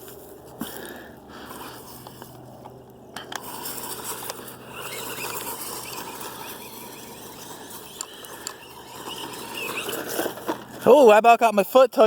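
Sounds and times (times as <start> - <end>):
electric motor whirring: 1.3 - 11.1.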